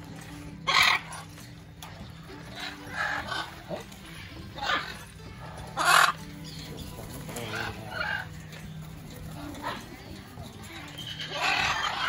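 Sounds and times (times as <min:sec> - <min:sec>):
macaws squawking: 0:00.1 - 0:12.0.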